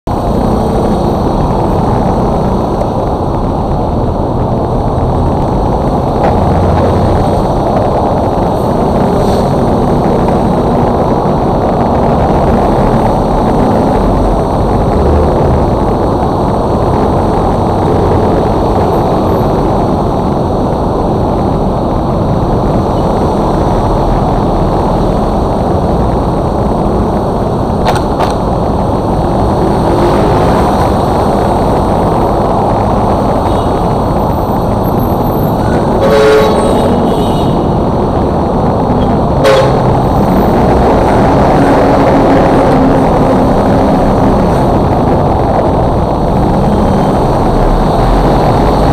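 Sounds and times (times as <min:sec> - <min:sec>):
wind noise: 0:00.1 - 0:48.9.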